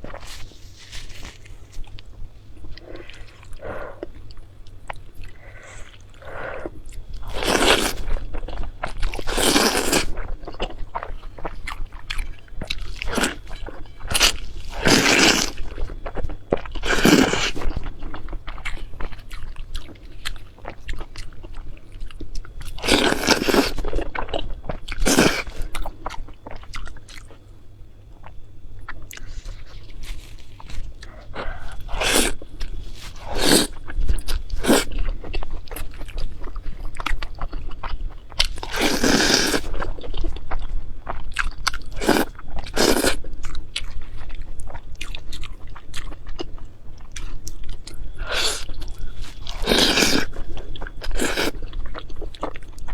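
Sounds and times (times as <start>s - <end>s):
crunchy chewing: 0.0s - 52.9s.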